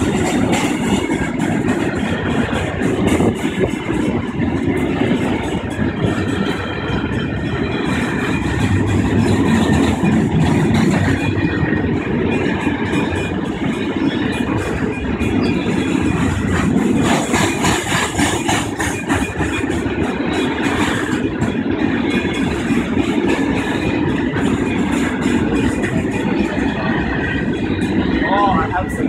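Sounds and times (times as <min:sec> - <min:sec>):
freight train wagons rumbling: 0:00.0 - 0:29.0
rapid clicks of train wheels: 0:00.0 - 0:29.0.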